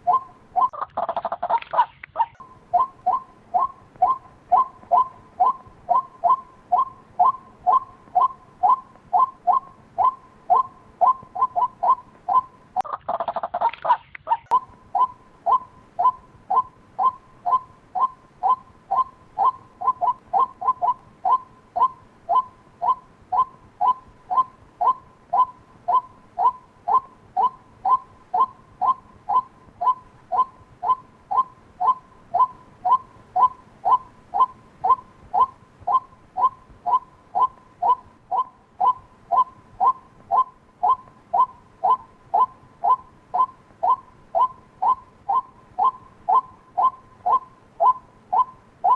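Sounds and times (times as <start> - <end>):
waterhen calling: 0.0 - 48.9.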